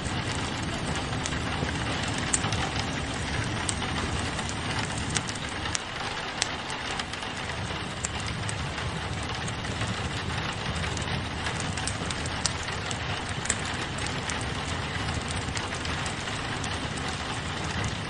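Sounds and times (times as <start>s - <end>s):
low rumble: 0.0s - 18.0s
rain pattering on a window: 0.0s - 18.0s
wood fire crackling: 0.0s - 18.0s.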